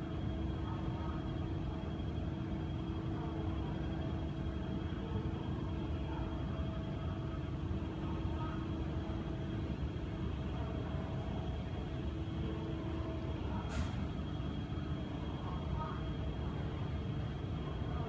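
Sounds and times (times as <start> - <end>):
constant hum: 0.0 - 18.0.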